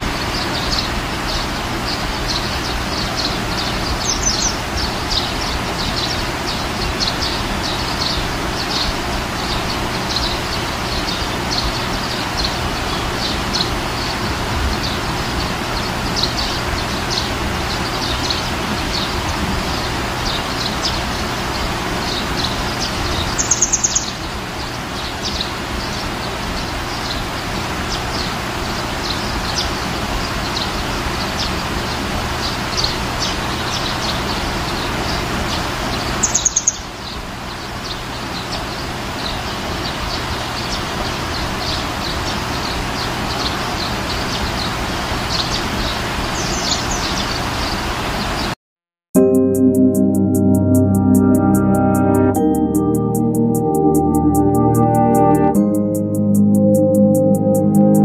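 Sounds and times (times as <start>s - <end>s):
birds chirping: 0.0s - 48.6s, 51.1s - 58.0s
steady rushing hiss: 0.0s - 48.6s.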